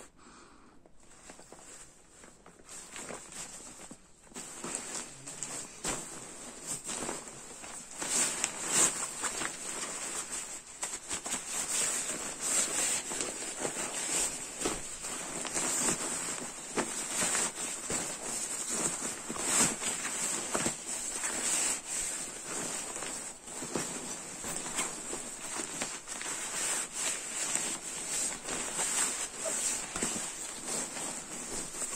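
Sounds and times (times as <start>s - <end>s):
nylon fabric rustling: 1.0s - 31.9s.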